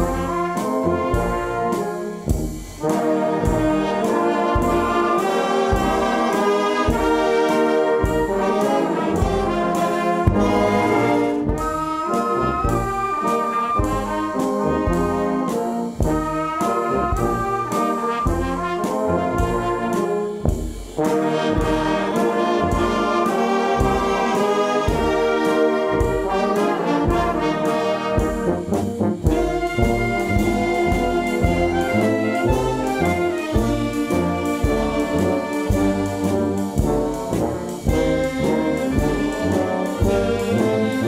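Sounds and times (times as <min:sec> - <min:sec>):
brass band playing show tune: 0:00.0 - 0:41.0.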